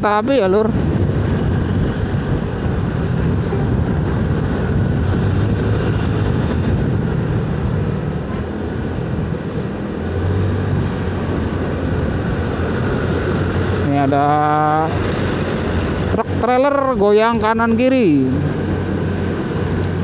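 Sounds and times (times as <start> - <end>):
wind and tyre rush: 0.0 - 20.0
motorcycle engine: 0.8 - 20.0.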